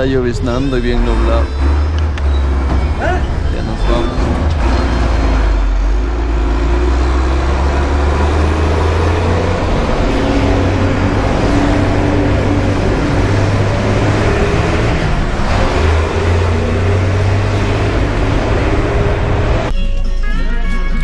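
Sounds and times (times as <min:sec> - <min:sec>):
road noise: 0:00.0 - 0:19.7
bus engine drone: 0:00.0 - 0:19.8.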